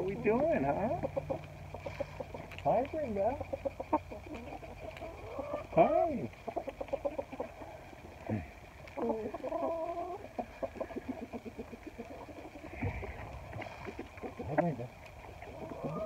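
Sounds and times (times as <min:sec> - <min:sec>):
chickens clucking: 0:00.0 - 0:16.0
drawn-out hen call: 0:00.0 - 0:16.0.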